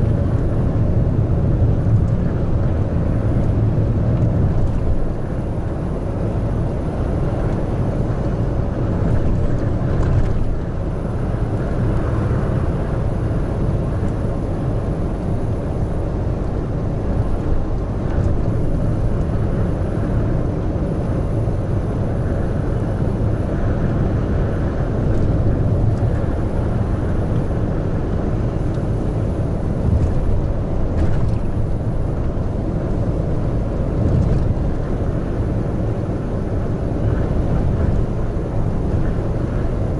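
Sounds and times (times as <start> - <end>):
truck diesel engine drone: 0.0 - 39.9
tyre and road noise: 0.0 - 39.9.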